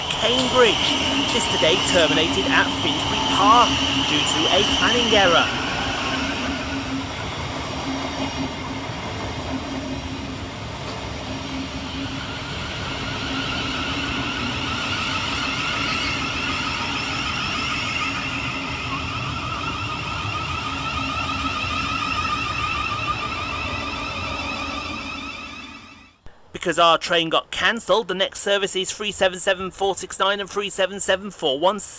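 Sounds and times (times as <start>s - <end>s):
train traction motors whining: 0.0s - 26.2s
steady low hum: 0.0s - 26.6s.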